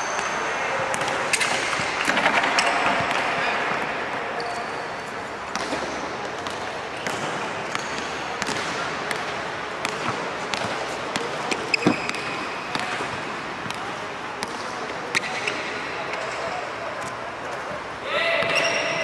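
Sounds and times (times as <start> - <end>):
basketballs bouncing on court: 0.0 - 4.8, 5.4 - 16.4, 18.4 - 19.0
steady background hiss: 0.0 - 19.0.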